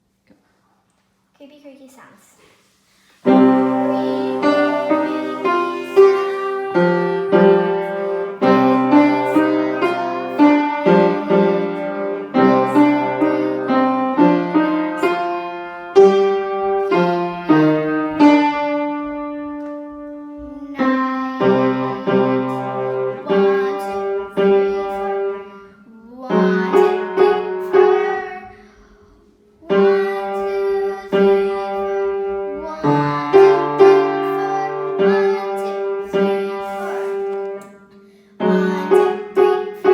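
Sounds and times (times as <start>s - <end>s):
solo piano piece: 3.2s - 28.6s, 29.6s - 39.9s.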